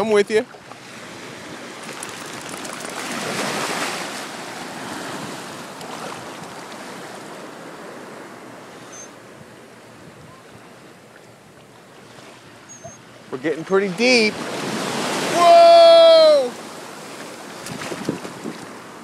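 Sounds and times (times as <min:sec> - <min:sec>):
ocean surf washing in: 0:00.8 - 0:11.0, 0:13.3 - 0:19.0.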